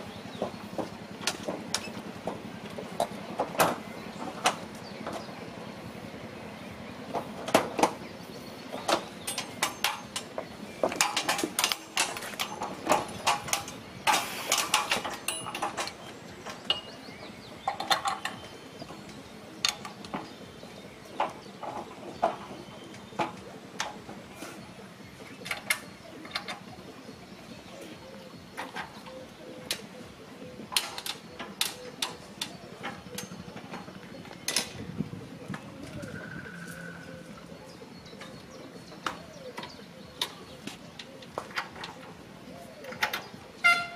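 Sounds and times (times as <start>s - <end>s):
train wheels clicking over rail joints: 0.0s - 30.0s, 30.6s - 43.9s.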